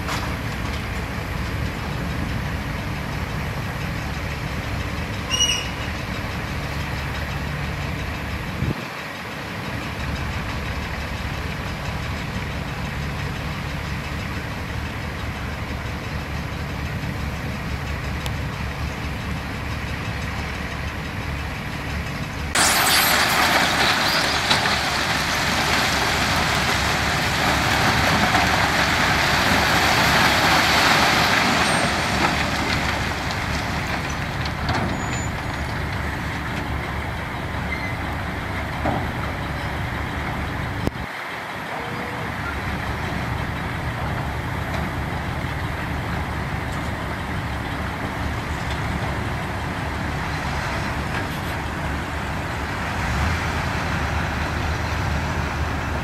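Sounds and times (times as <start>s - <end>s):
diesel heavy equipment running: 0.0s - 56.0s.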